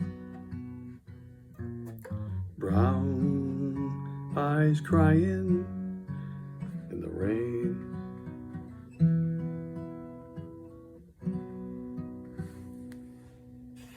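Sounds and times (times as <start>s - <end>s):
acoustic guitar chords strummed: 0.0s - 13.9s.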